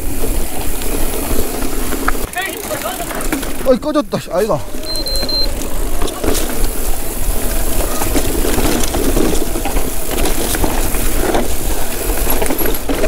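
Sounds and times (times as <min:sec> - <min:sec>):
bike rattling: 0:00.0 - 0:13.0
tyres rolling over dirt and stones: 0:00.0 - 0:13.0.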